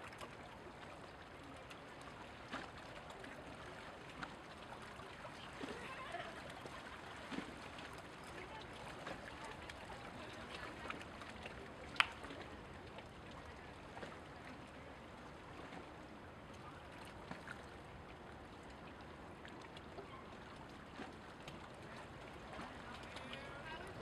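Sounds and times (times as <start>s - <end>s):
light water splashes: 0.0s - 24.0s
small waves lapping: 0.0s - 24.0s.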